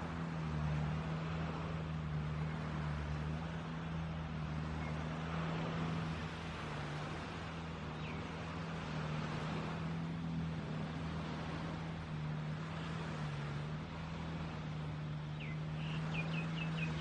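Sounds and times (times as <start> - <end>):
low motor drone: 0.0 - 17.0
surf washing: 0.0 - 17.0.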